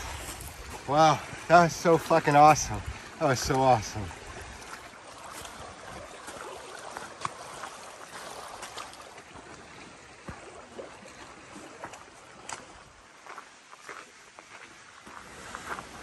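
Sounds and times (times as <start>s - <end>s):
water running and lapping: 0.0s - 16.0s.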